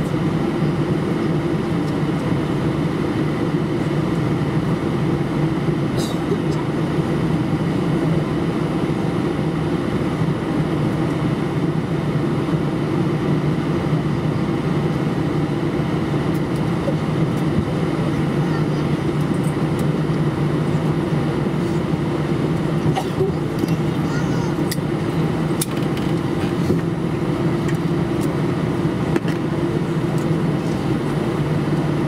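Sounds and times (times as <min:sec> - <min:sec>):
air-conditioning hum: 0:00.0 - 0:32.0
aircraft cabin engine drone: 0:00.0 - 0:32.0.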